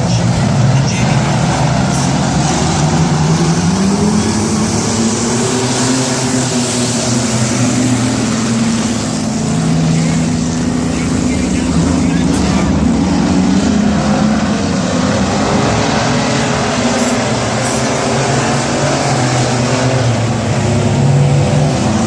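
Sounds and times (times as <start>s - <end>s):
race truck engines running: 0.0s - 22.0s.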